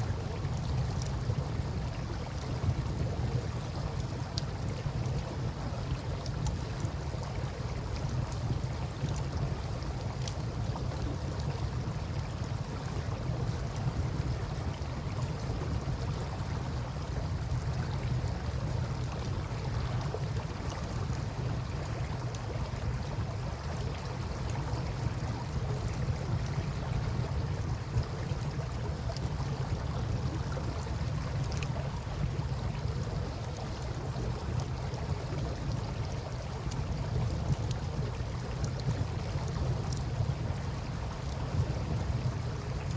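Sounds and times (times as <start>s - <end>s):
river water flowing: 0.0s - 42.9s
campfire crackling and popping: 0.2s - 3.2s, 3.8s - 42.9s.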